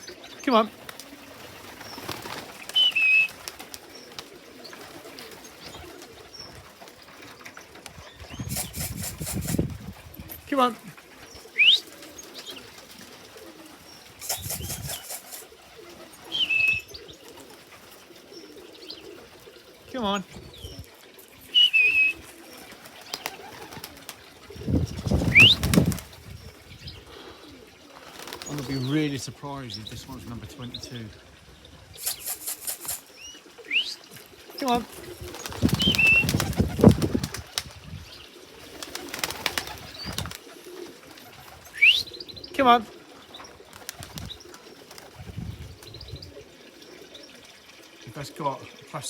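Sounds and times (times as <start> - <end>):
pigeon wings rustling: 0.0 - 19.9, 20.9 - 26.6, 27.5 - 28.9, 32.0 - 42.2, 42.9 - 46.7
small birds chirping: 0.0 - 49.0.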